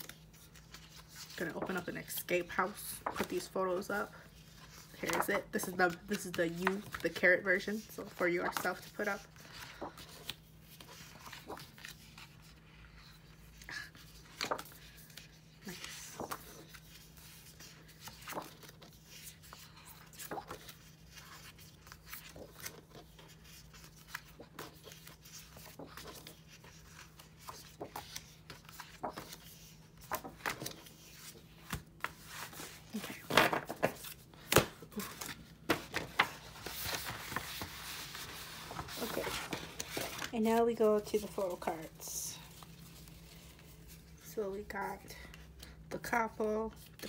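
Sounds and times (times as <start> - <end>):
paper rustling and slapping on desk: 0.0 - 44.2
sliding paper rustle: 0.0 - 44.3.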